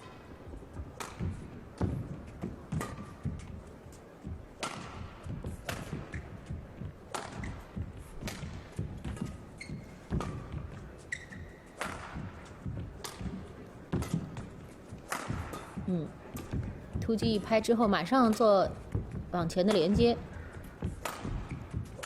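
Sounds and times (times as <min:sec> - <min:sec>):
shoes squeaking on court: 0:00.0 - 0:22.0
footsteps thudding: 0:00.5 - 0:17.8, 0:18.7 - 0:22.0
rackets striking shuttlecock: 0:00.8 - 0:03.6, 0:04.6 - 0:17.5, 0:18.2 - 0:22.0.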